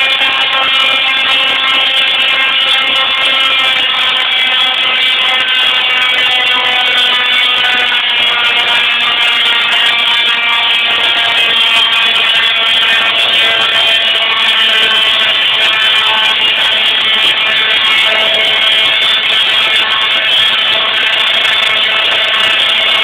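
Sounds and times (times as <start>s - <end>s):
tesla coil buzzing tones: 0.0s - 23.0s.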